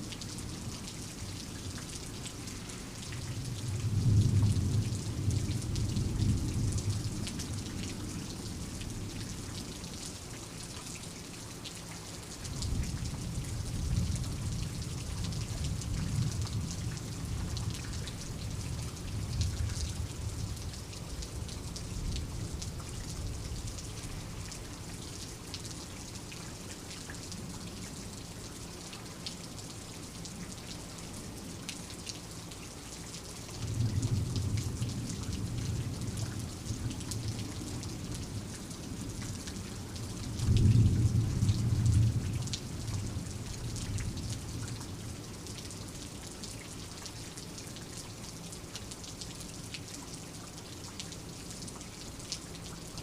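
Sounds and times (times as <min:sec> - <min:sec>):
rain drops pattering: 0:00.0 - 0:53.0.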